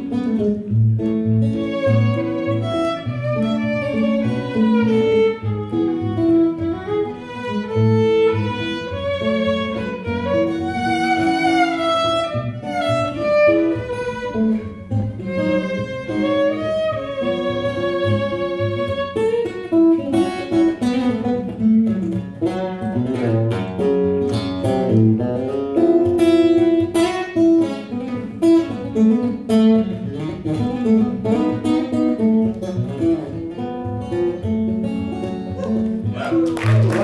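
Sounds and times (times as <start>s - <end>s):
acoustic guitar picked notes: 0.0s - 37.0s.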